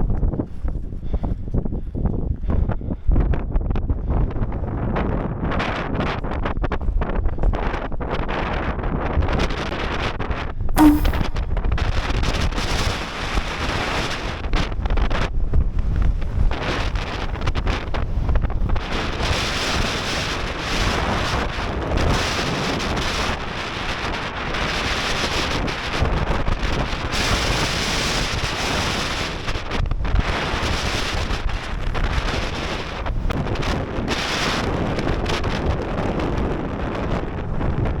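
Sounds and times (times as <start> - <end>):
strong wind on microphone: 0.0 - 11.4, 13.0 - 38.0.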